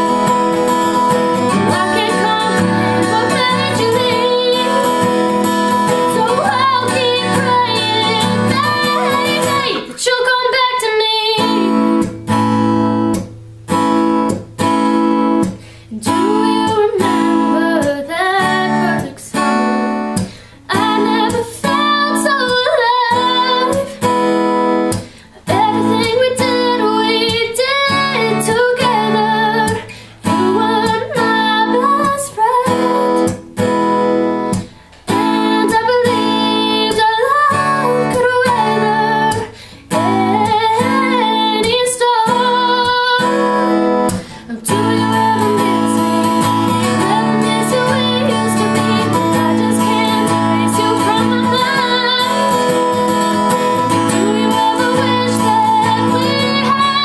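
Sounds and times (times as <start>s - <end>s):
woman singing: 0.0s - 12.5s, 15.9s - 33.4s, 34.9s - 57.0s
strummed acoustic guitar: 0.0s - 57.0s.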